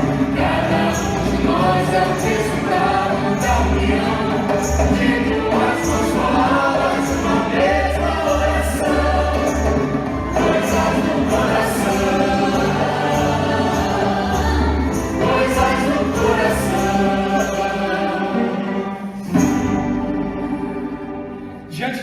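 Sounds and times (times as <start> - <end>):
choir singing sustained chords: 0.0 - 21.7.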